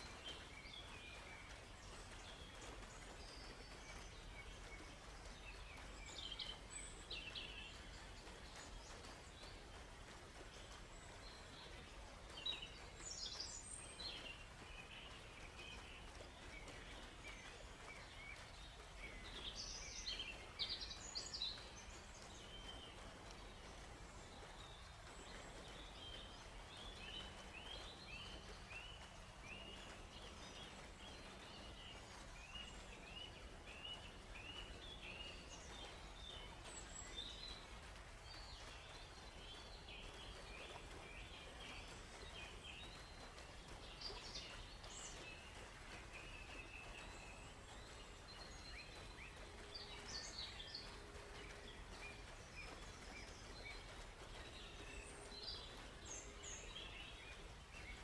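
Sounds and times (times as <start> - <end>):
faint background hiss: 0.0 - 58.0
songbirds chirping and singing: 0.0 - 58.0.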